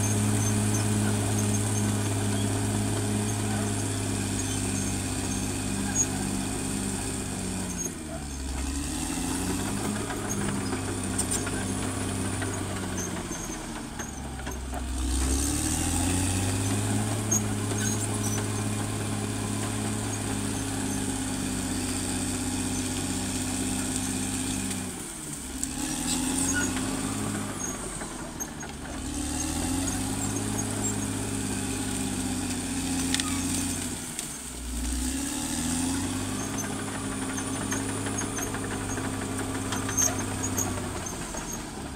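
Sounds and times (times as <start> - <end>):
bulldozer diesel engine: 0.0 - 41.9.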